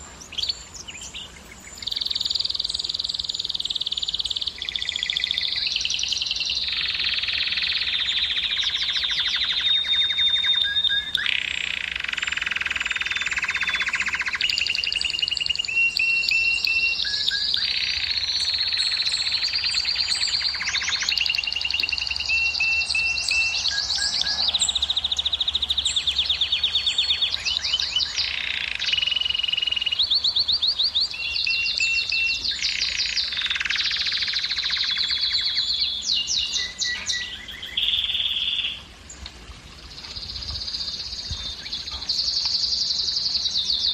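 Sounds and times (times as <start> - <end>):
canary singing trills: 0.0 - 39.3, 39.9 - 43.9.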